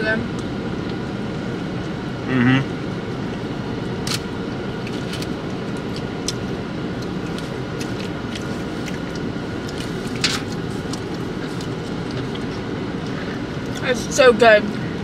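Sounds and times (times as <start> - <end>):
car engine and ventilation hum: 0.0 - 15.0.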